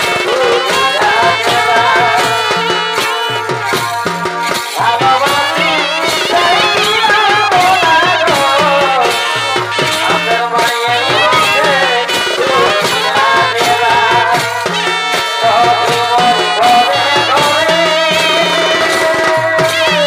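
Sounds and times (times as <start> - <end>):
folk music with steady beat: 0.0 - 20.0.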